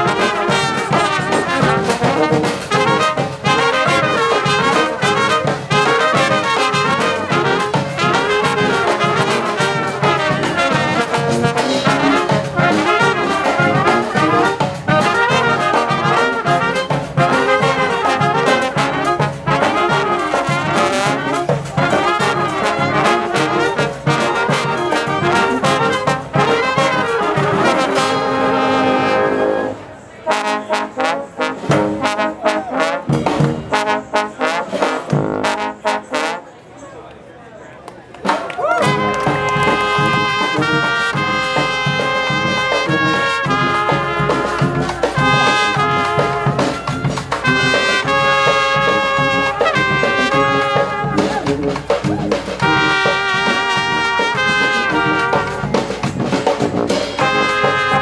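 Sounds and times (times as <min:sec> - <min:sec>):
street brass band playing: 0:00.0 - 0:37.1, 0:38.1 - 0:58.0.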